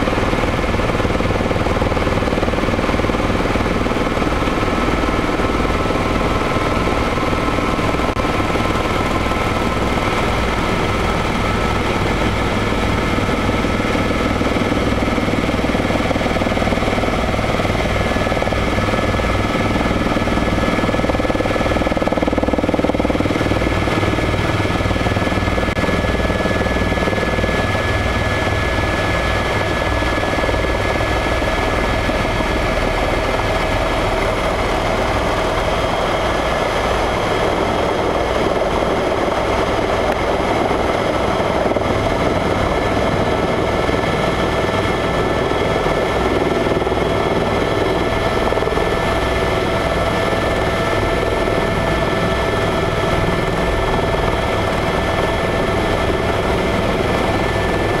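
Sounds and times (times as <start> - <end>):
helicopter engine whine: 0.0 - 58.0
helicopter rotor pulsing: 0.0 - 58.0.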